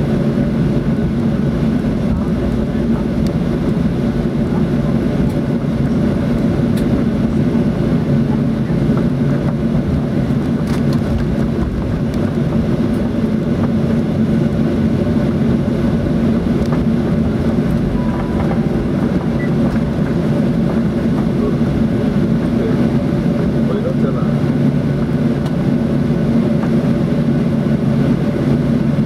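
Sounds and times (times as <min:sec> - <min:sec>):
airplane cabin rumble while taxiing: 0:00.0 - 0:29.0.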